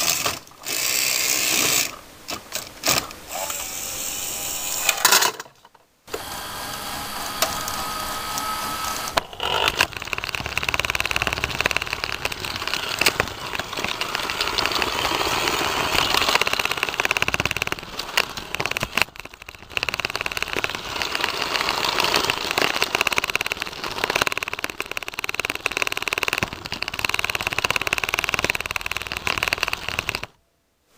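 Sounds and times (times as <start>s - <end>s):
toy monorail motor rattle and whir: 0.0s - 2.0s, 2.6s - 5.5s, 6.1s - 30.3s.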